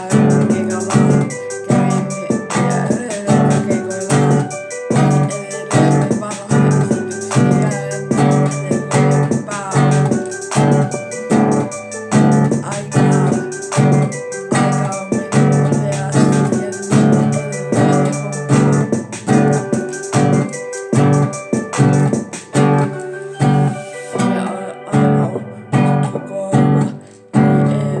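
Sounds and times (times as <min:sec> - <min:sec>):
keyboard music with steady beat: 0:00.0 - 0:28.0.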